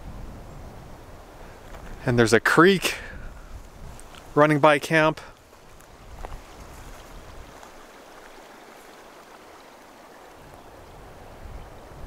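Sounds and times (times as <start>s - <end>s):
creek water rushing: 0.9s - 12.0s.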